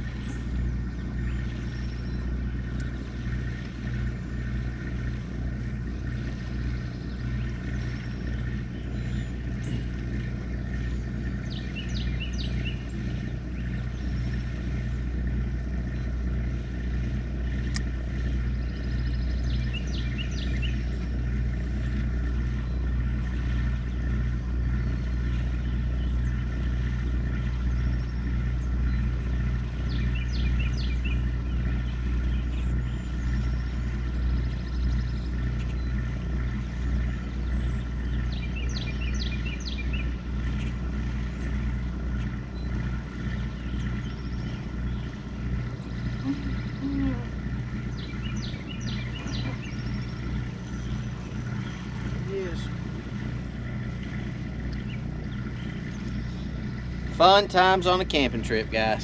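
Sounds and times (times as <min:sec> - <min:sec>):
generator humming: 0:00.0 - 0:59.0
small birds chirping: 0:00.0 - 0:59.0.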